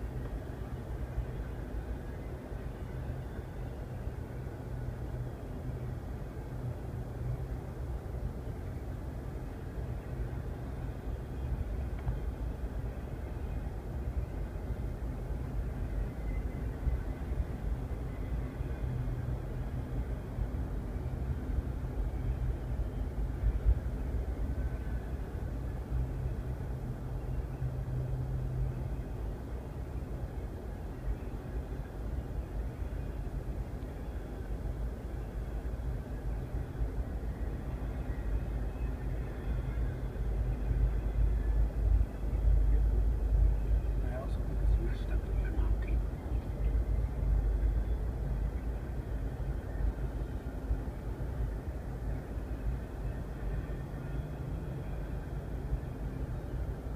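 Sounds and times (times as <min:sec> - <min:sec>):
muffled freight train rumble: 0:00.0 - 0:56.9.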